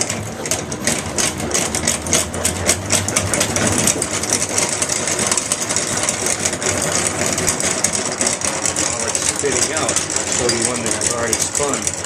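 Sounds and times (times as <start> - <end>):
honey extractor whirring: 0.0 - 12.0.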